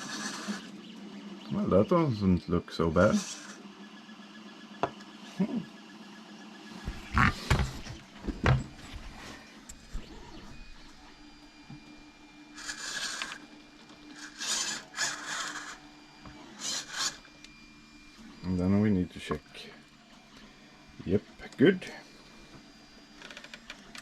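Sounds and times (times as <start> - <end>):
three-d printer running: 0.0 - 24.0.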